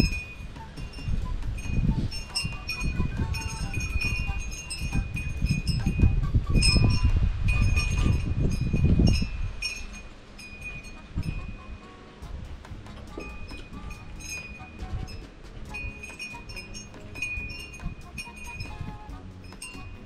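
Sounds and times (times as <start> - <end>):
low uneven rumble: 0.0 - 20.0
wind chimes tinkling: 0.0 - 20.0.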